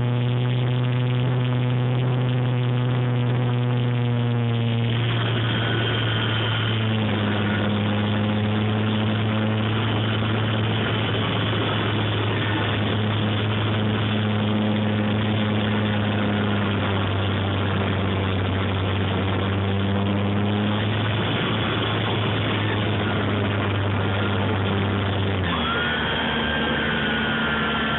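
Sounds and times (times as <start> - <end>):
model plane electric motor humming: 0.0 - 27.9
rush of air: 0.0 - 27.9.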